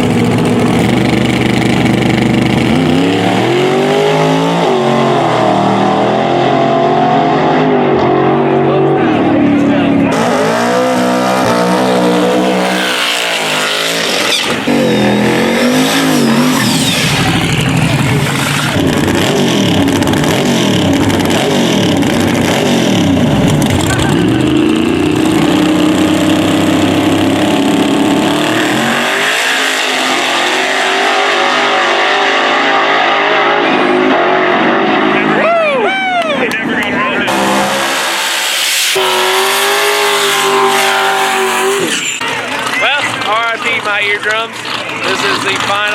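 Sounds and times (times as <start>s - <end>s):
racing car engines revving: 0.0s - 45.9s.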